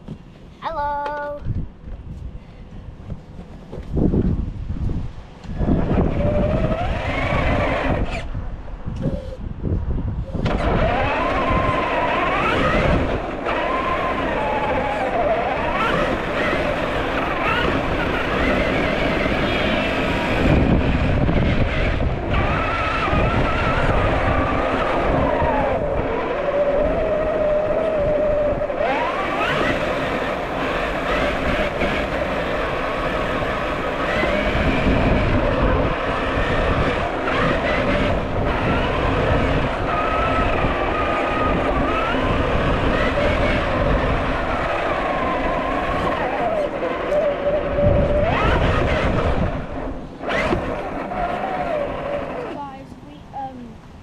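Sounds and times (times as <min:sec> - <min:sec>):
steady rough noise: 0:02.7 - 0:54.0
rc car electric motor whining: 0:05.6 - 0:08.4, 0:10.2 - 0:52.8.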